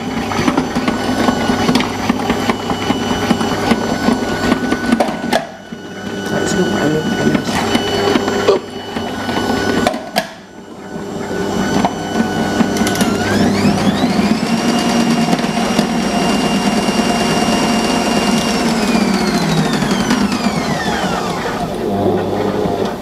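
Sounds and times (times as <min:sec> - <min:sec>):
kitchen machine motor whine: 0:00.0 - 0:23.0.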